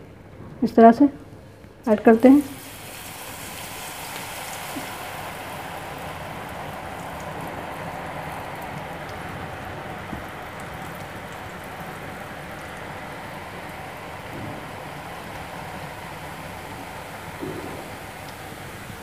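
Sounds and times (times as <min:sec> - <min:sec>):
batter sizzling in hot oil: 0:02.1 - 0:19.0.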